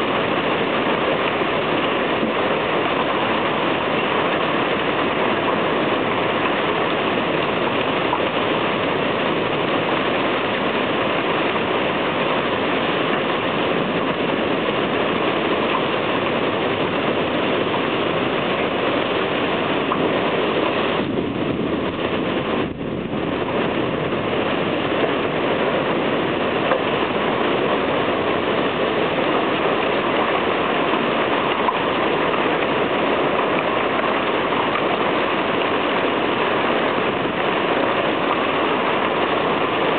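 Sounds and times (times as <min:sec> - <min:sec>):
heavy rain and hail: 0:00.0 - 0:39.9.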